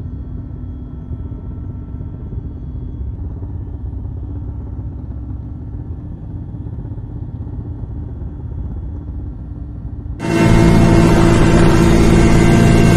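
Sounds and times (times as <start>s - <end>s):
aircraft engine drone: 0.0s - 12.9s.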